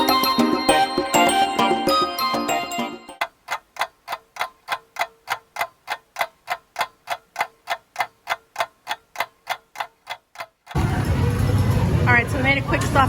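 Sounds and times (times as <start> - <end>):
clock ticking: 0.0 - 10.8.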